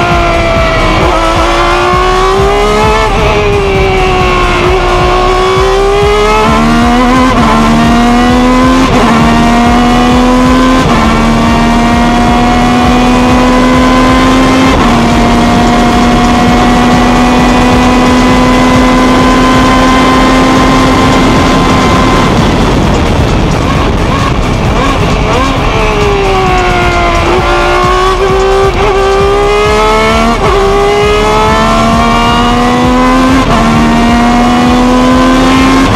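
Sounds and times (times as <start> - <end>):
racing car engine shifting gears: 0.0 - 35.9.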